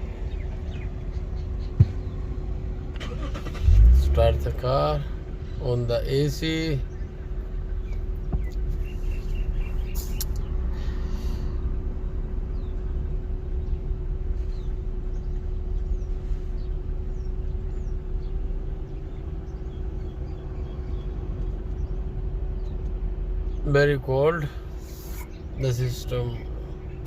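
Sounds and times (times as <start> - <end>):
birds chirping: 0.0 - 27.0
car engine running: 0.0 - 27.0.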